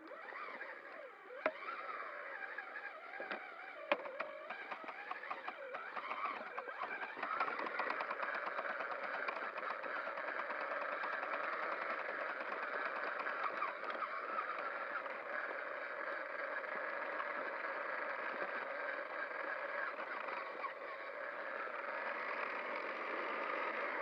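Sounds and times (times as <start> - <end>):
rc truck electric motor whining: 0.0 - 24.0.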